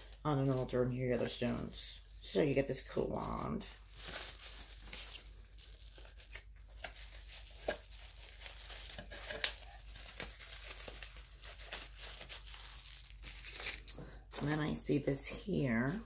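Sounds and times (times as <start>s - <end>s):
paper packaging rustling: 0.0s - 14.5s.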